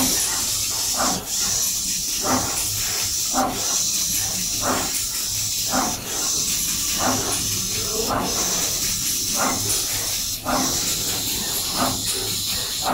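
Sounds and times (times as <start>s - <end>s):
machine hissing: 0.0s - 12.9s.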